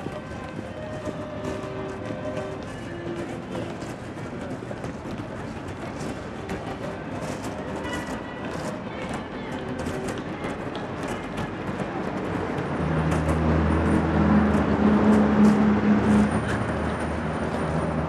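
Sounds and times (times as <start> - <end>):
street noise: 0.0 - 18.0.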